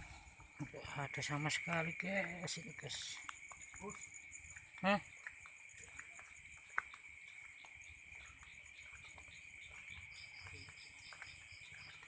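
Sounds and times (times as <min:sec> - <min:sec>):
crickets trilling: 0:00.0 - 0:12.0
faint pulsing insect call: 0:00.0 - 0:12.0.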